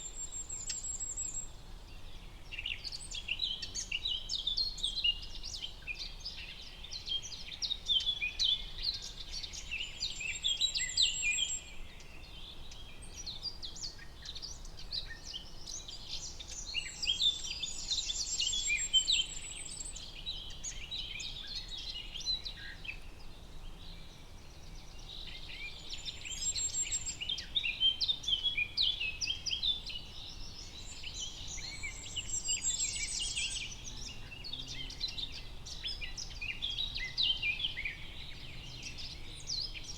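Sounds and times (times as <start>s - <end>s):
faint steady background hiss: 0.0s - 39.9s
songbirds singing and chirping: 0.0s - 39.9s.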